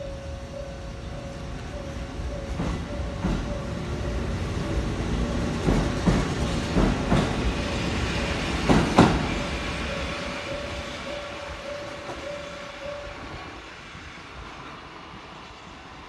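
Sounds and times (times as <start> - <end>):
wheels clacking over rail joints: 0.0 - 13.3
electric train rolling: 0.0 - 16.0.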